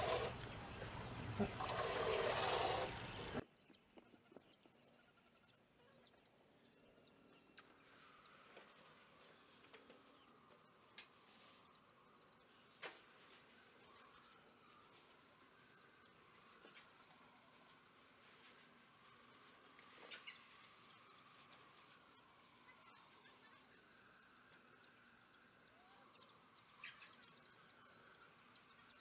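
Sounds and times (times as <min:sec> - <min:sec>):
birds chirping: 0:00.0 - 0:29.0
insects: 0:01.6 - 0:29.0.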